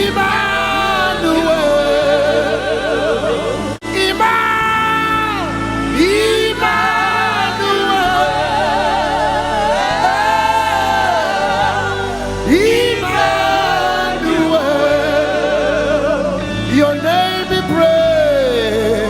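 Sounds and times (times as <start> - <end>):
choir singing sustained notes: 0.0 - 19.0
low musical accompaniment: 0.0 - 19.0.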